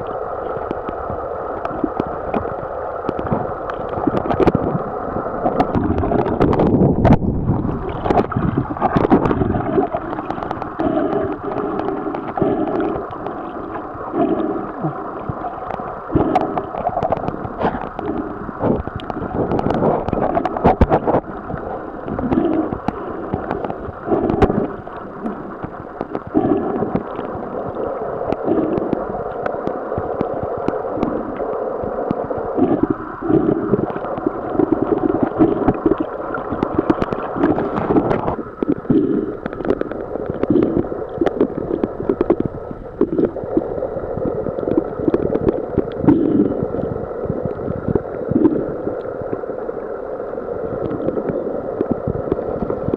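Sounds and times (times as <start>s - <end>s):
underwater gurgling and bubbling: 0.0s - 52.9s
faint clicks: 7.9s - 52.9s.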